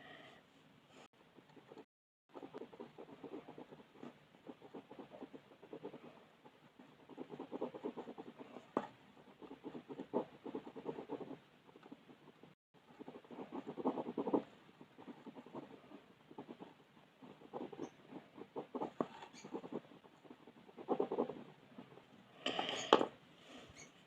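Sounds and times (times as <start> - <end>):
coloured pencil scratching on paper: 1.4 - 22.9.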